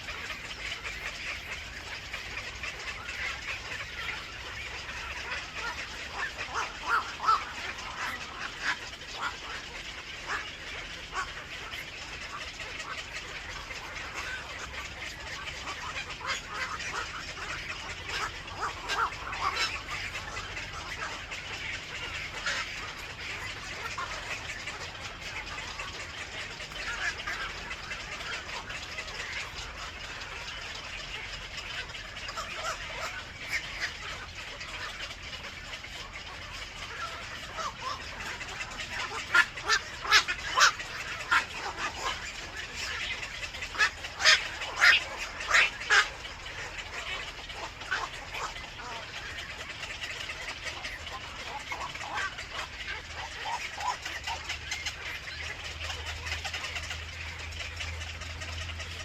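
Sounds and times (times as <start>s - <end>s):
birds calling at a nest: 0.0s - 59.0s.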